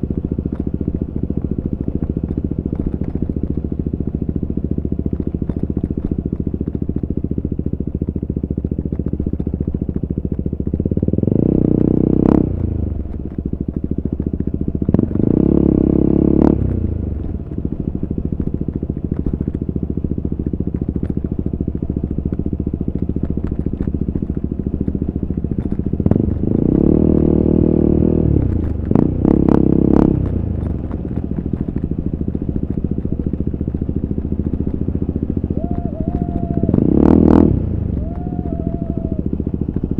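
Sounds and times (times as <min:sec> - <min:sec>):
exhaust crack: 0:00.0 - 0:39.9
motorcycle engine revving: 0:00.0 - 0:39.9.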